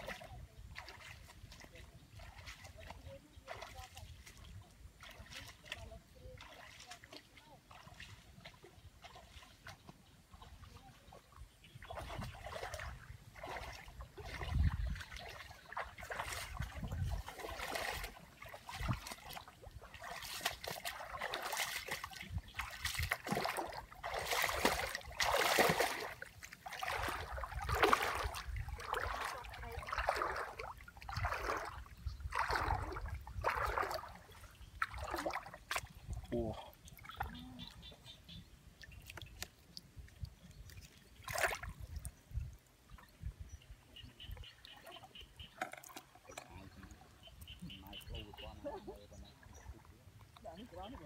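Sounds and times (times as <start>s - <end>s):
shallow water splashing: 0.0s - 51.0s.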